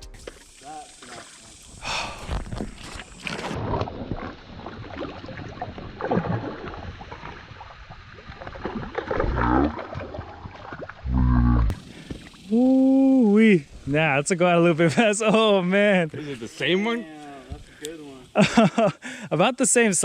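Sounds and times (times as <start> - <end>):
creek water splashing: 0.0 - 18.7.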